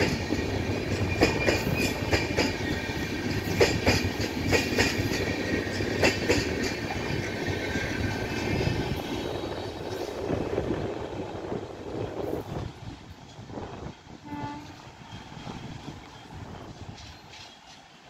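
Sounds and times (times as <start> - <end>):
train wheels clattering over rail joints: 0.0 - 10.9, 12.0 - 18.0
train rumble: 0.0 - 18.0.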